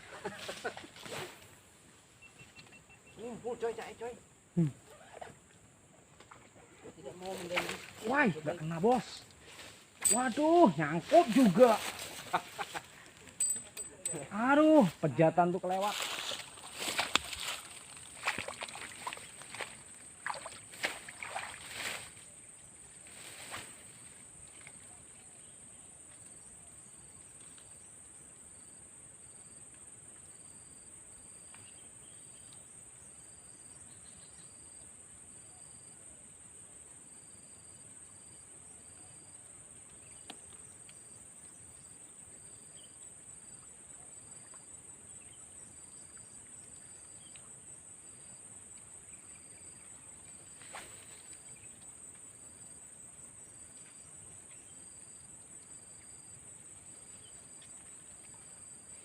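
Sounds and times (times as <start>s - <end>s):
chorus of crickets: 0.0s - 59.0s
insect chirps: 0.0s - 59.0s.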